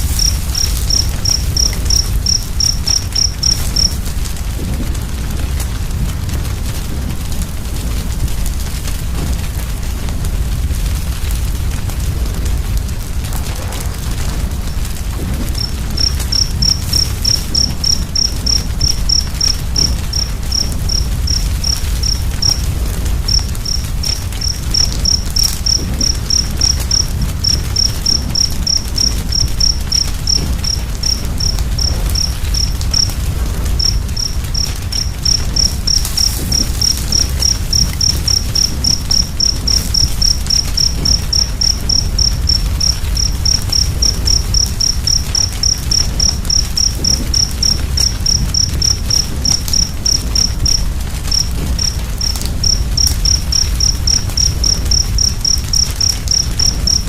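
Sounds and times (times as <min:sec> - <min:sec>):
cricket chirping: 0:00.0 - 0:07.9, 0:10.7 - 0:57.0
fire crackles: 0:00.0 - 0:57.0
wood fire rumbling: 0:00.0 - 0:57.0.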